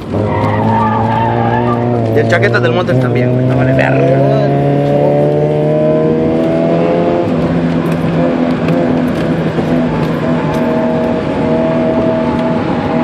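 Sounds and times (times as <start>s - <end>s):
car engine under load: 0.0s - 13.0s
road and wind noise: 0.0s - 13.0s.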